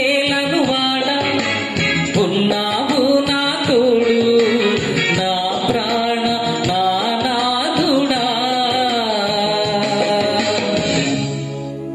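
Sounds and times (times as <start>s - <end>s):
man singing into microphone: 0.0s - 11.2s.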